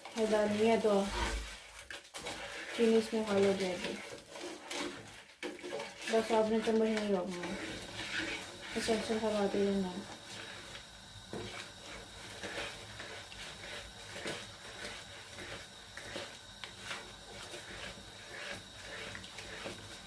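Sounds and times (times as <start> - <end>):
spoon scraping a pan: 0.0 - 20.0.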